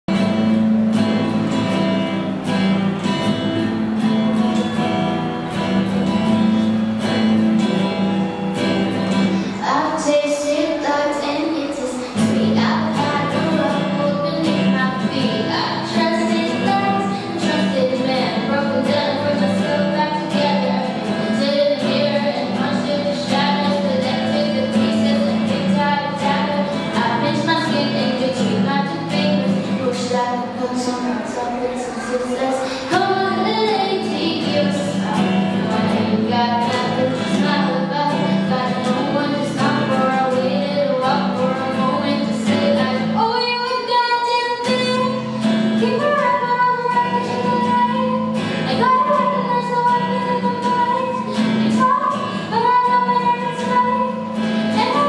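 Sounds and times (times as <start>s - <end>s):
acoustic guitar strumming chords: 0.1s - 55.0s
girl singing: 0.1s - 55.0s.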